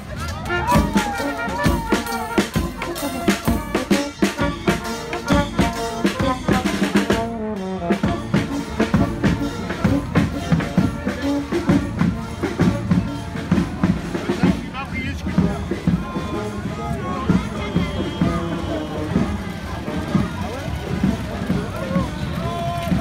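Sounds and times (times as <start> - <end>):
brass band playing: 0.0 - 22.6
snare and bass drums: 0.0 - 23.0.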